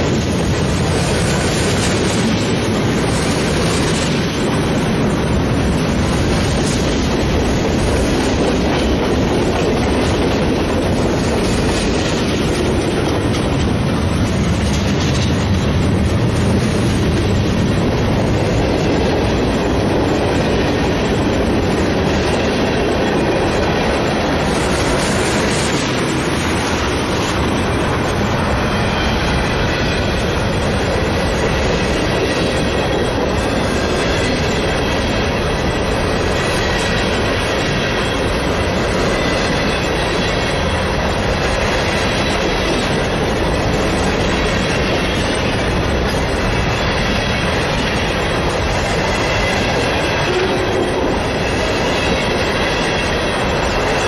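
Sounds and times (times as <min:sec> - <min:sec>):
freight train cars rolling past: 0:00.0 - 0:54.0
wheel clatter on rails: 0:00.0 - 0:54.0.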